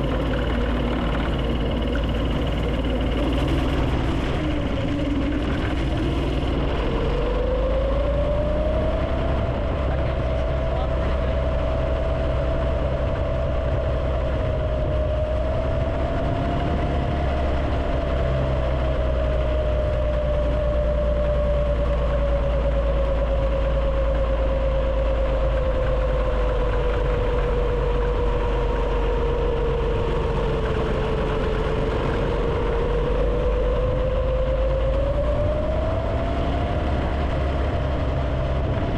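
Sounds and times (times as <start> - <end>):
go-kart engine running: 0.0 - 38.9
heavy low rumble: 0.0 - 38.9.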